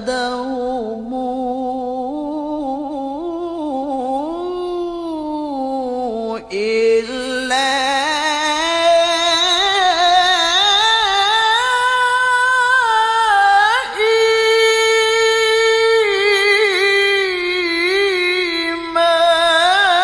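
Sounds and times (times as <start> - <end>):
person reciting in melodic chant: 0.0 - 20.0.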